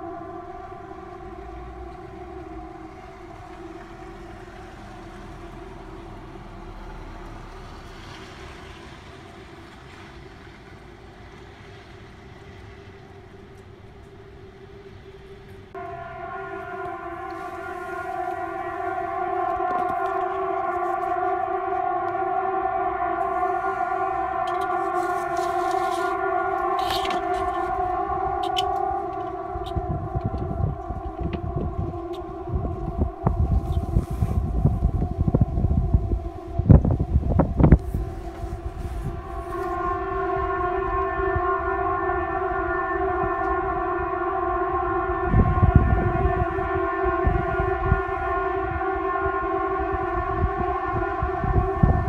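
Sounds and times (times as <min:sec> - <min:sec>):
warning siren chord: 0:00.0 - 0:10.6, 0:11.3 - 0:52.0
wind buffeting microphone: 0:00.0 - 0:52.0.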